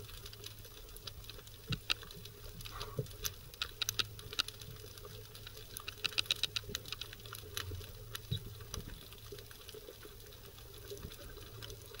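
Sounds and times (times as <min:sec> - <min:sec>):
underwater crackling clicks: 0:00.0 - 0:12.0.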